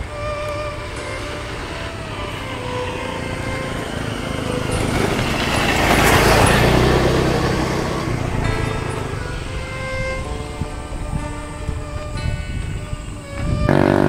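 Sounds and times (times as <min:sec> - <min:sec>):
motor vehicle passing by: 0:00.0 - 0:14.0.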